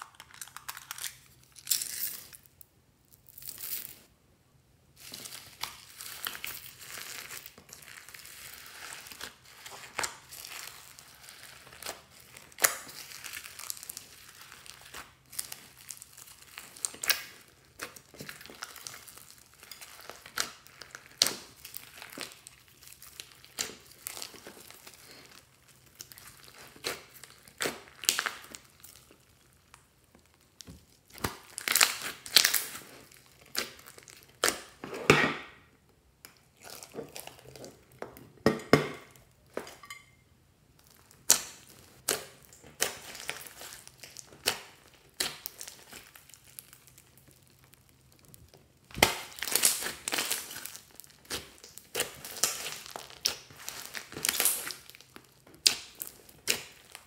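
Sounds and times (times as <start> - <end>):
slime crackling and squelching: 0.0 - 4.1, 4.9 - 40.0, 40.7 - 57.0.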